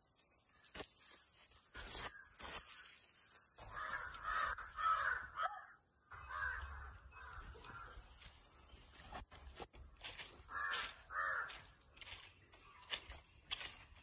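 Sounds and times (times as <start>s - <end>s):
birds rough repeated calls: 0.5s - 12.7s.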